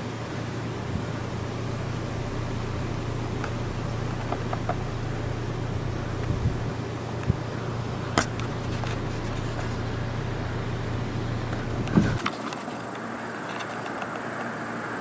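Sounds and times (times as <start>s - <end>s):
vehicle engine running: 0.0s - 12.2s
wind-like noise: 0.0s - 12.2s.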